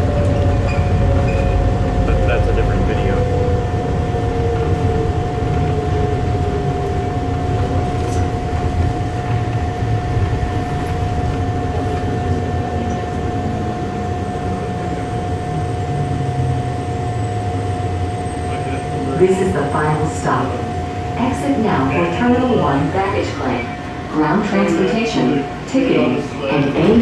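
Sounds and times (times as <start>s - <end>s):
constant hum: 0.0s - 27.0s
tram rumble: 0.0s - 27.0s.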